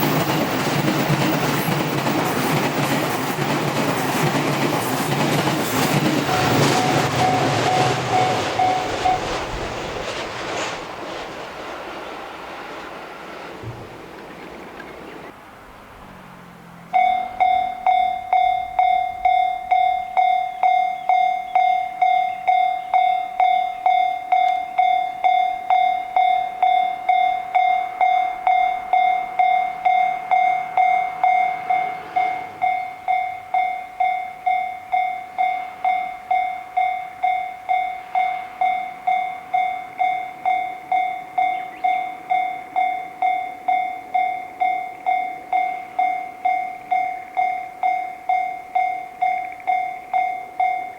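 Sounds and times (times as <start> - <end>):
railroad crossing bell ringing: 0.0 - 9.6, 16.8 - 50.9.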